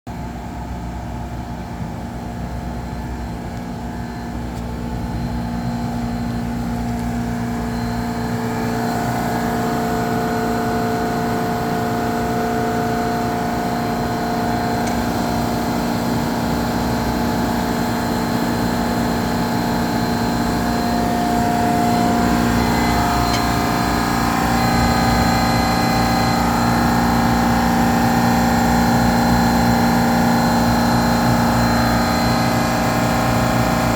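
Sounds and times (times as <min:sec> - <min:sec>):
refrigeration compressor humming: 0:00.1 - 0:33.9.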